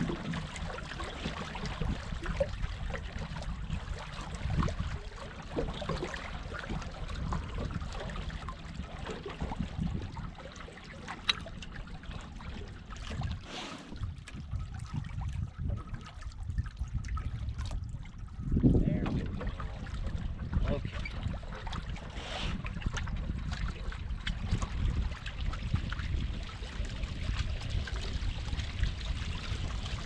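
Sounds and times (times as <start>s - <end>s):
steady low rumble: 0.0s - 30.0s
water splashing along hull: 0.0s - 30.0s.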